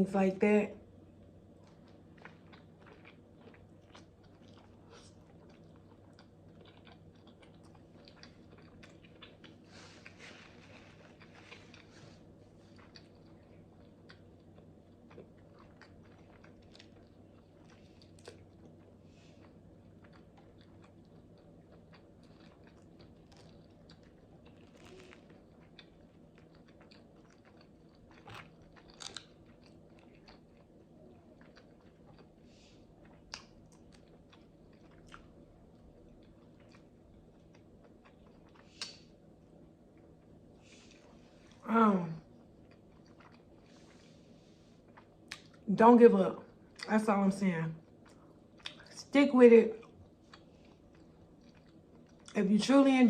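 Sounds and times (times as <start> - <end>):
faint steady hum: 0.0 - 53.0
person chewing: 1.6 - 39.1, 42.3 - 45.6, 47.8 - 48.9, 49.8 - 52.4.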